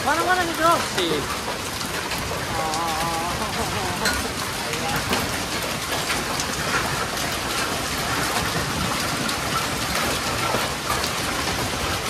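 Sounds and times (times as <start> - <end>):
hailstones ticking on paving: 0.0 - 12.0
heavy rain: 0.0 - 12.0.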